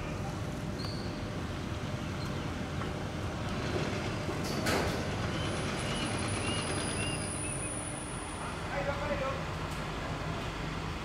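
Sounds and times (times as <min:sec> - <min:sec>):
distant jet engines rumbling: 0:00.0 - 0:11.0
high jet engine whine: 0:00.0 - 0:11.0.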